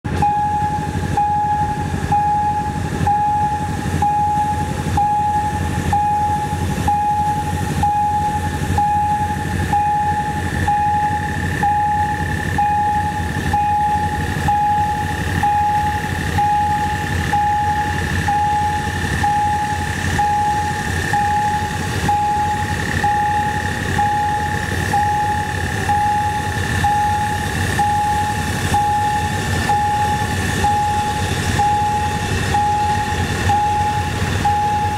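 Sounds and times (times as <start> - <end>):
diesel locomotive rumble: 0.0 - 34.9
level crossing warning tone: 0.0 - 34.9.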